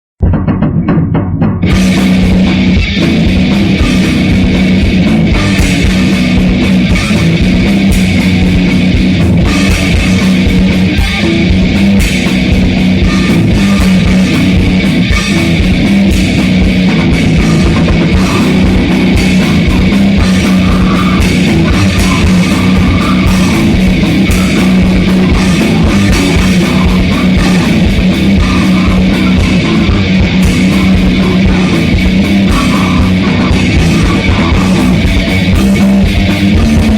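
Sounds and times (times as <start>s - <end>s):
bass guitar: 0.0s - 36.9s
distorted electric guitars: 0.2s - 36.9s
fast dense drumming: 0.2s - 36.9s.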